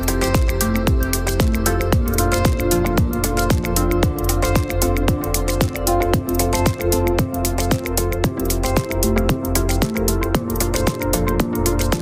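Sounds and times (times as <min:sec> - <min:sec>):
heavy bass: 0:00.0 - 0:12.0
sustained synth chords: 0:00.0 - 0:12.0
kick drum: 0:00.4 - 0:12.0.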